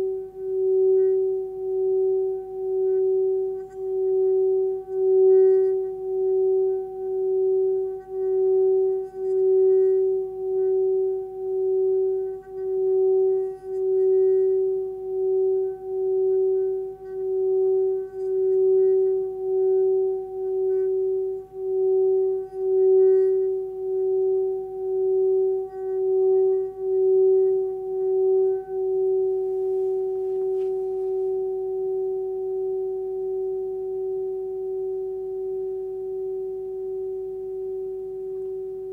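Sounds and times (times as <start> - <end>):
singing bowl humming: 0.0 - 38.9
singing bowl ringing: 0.0 - 38.9.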